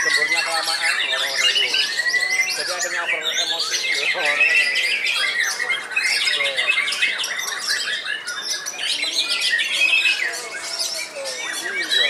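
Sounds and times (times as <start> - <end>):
chorus of birds singing: 0.0 - 12.0.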